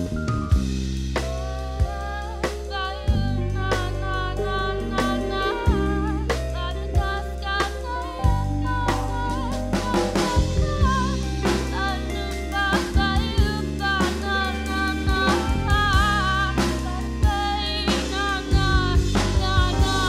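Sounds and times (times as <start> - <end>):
bass line: 0.0 - 20.0
drum kit beat: 0.0 - 20.0
person singing: 1.2 - 20.0.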